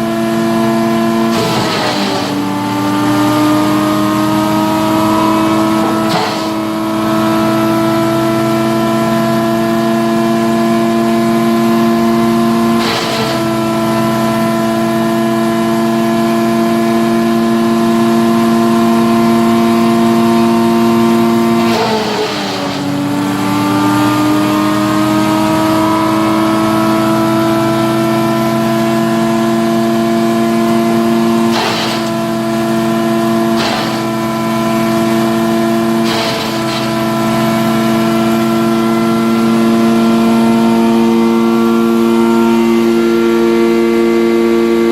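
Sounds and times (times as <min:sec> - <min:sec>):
wood chipper engine running: 0:00.0 - 0:44.9.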